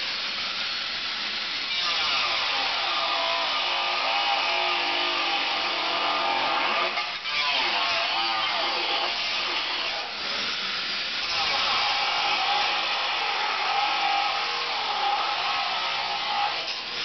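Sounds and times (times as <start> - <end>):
angle grinder cutting steel: 0.0 - 17.0.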